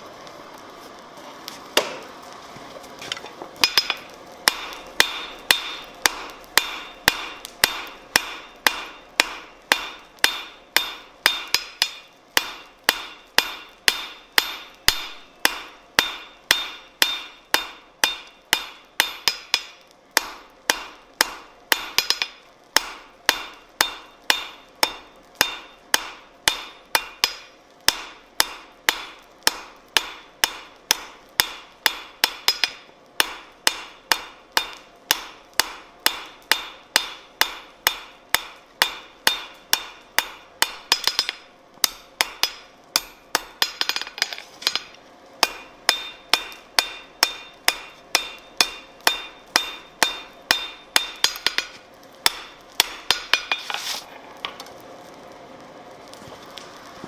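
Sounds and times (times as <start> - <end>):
hammer ringing on anvil: 3.6 - 53.6.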